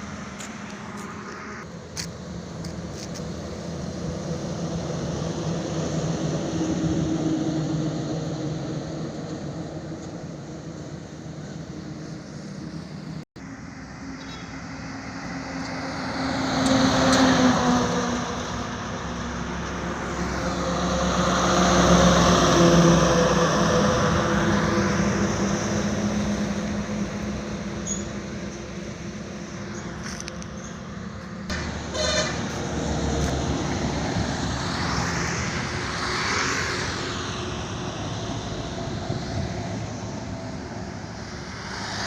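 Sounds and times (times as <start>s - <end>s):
steady engine drone: 0.0s - 42.0s
vehicles passing: 0.0s - 42.0s.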